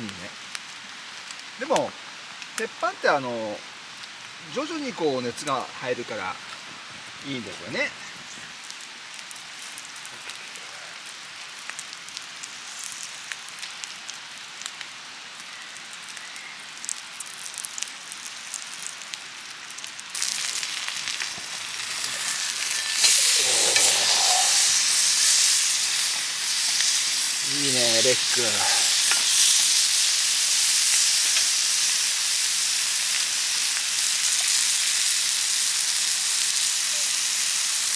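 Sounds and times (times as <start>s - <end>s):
meat sizzling on a griddle: 0.0s - 37.9s.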